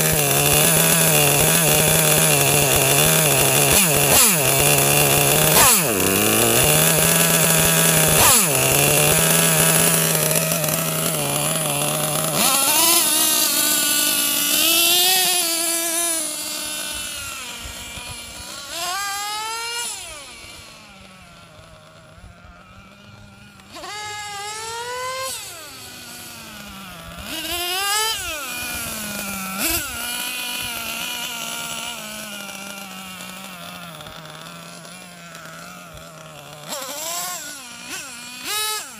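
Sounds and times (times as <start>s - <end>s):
small two-stroke engine revving: 0.0s - 38.9s.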